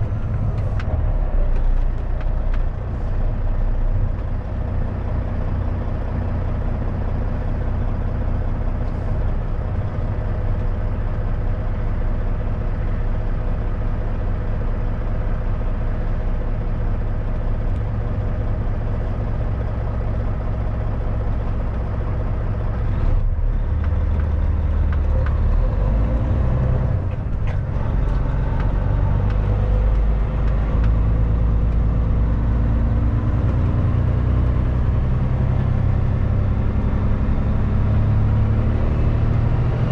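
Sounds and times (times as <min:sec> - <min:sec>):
truck diesel engine running: 0:00.0 - 0:39.8.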